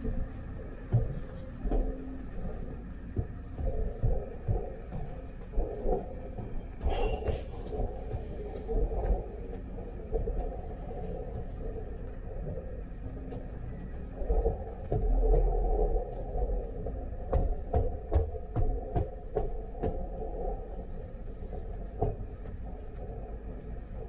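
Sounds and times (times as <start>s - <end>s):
low rumble of machinery: 0.0s - 24.0s.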